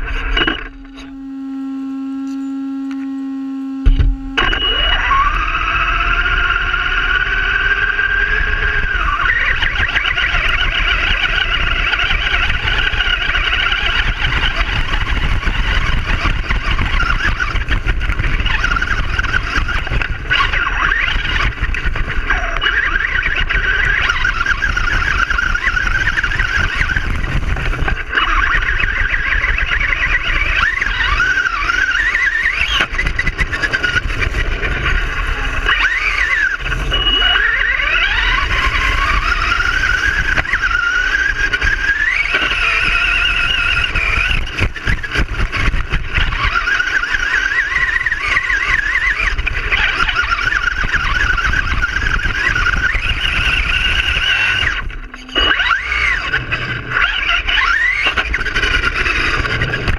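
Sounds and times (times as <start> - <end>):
low rumble of tyres: 0.0 - 59.9
toy car electric motor whining: 0.0 - 59.9.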